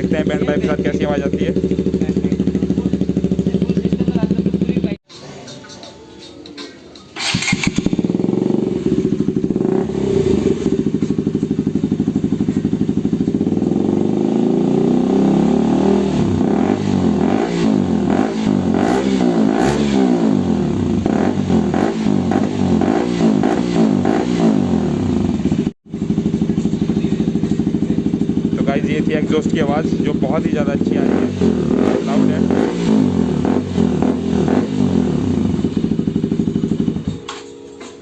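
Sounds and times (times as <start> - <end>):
motorcycle engine idling and revving: 0.0 - 5.0, 7.1 - 38.0.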